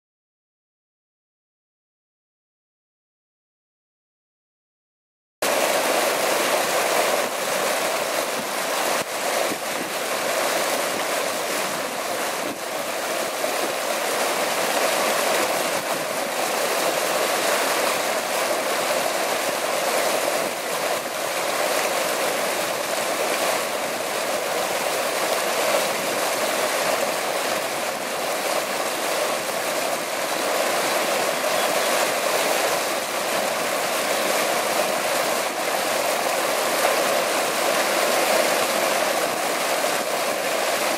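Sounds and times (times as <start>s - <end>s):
fountain water splashing: 5.4s - 40.9s.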